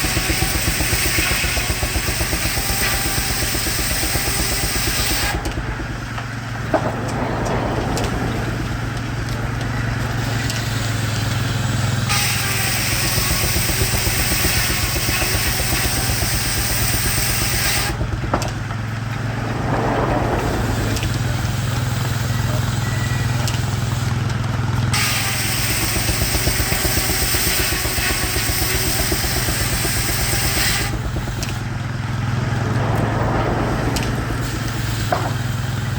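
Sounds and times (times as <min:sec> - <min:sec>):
sawmill engine running: 0:00.0 - 0:35.9.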